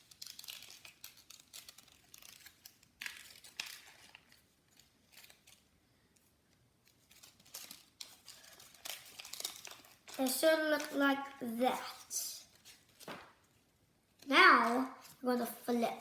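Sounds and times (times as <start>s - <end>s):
paper crinkling and rustling: 0.0s - 16.0s.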